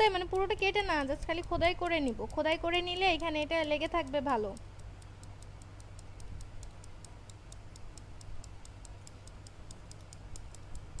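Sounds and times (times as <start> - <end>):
rapid even ticking: 0.0 - 11.0
steady low hum: 0.0 - 11.0.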